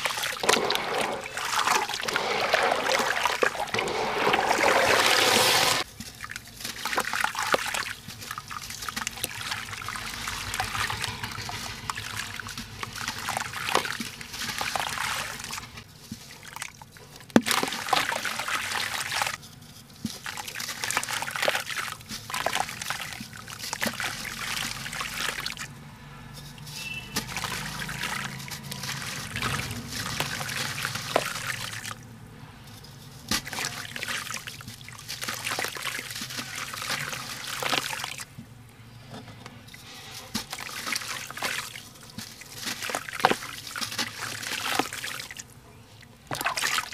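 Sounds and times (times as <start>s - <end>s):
water trickling and splashing: 0.0s - 19.4s, 20.0s - 25.8s, 26.4s - 38.6s, 39.7s - 46.9s.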